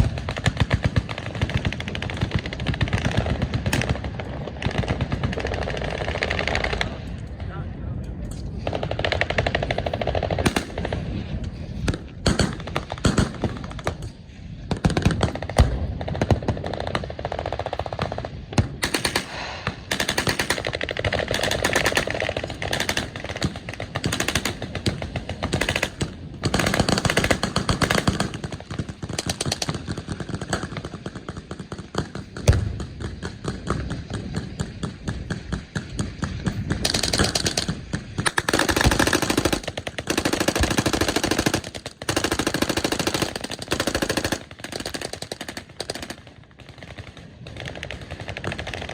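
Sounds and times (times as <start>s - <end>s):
machine guns firing: 0.0s - 7.1s, 8.6s - 48.9s.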